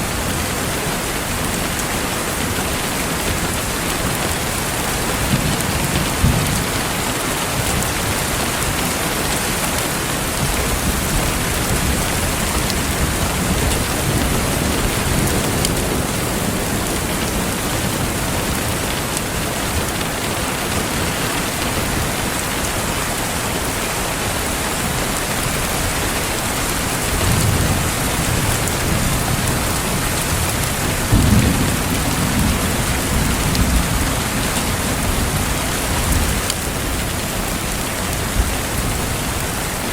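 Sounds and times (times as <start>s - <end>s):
steady rain falling: 0.0s - 39.9s
thunder rumbling: 2.8s - 22.4s, 24.9s - 39.4s.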